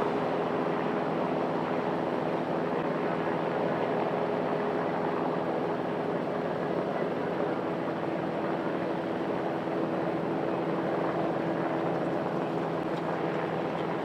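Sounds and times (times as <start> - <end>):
helicopter running: 0.0 - 14.0.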